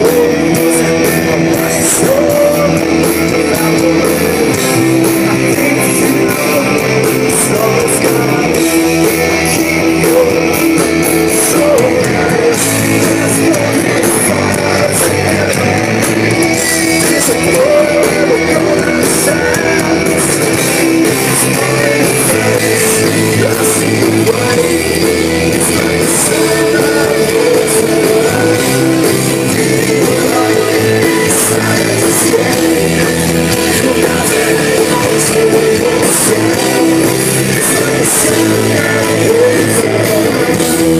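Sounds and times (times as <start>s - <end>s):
rock music with guitar and drums: 0.0s - 40.9s.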